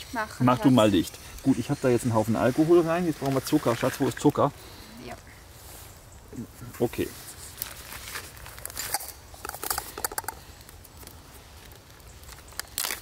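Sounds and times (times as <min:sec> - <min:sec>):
packaging and dry leaves rustling: 0:00.1 - 0:04.5, 0:06.6 - 0:13.0.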